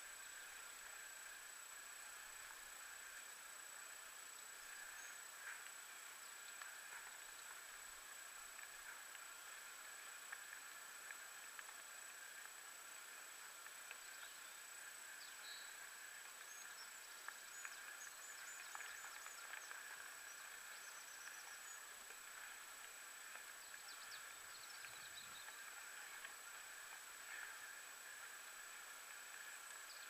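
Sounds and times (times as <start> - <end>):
thin steady high whine: 0.0 - 30.0.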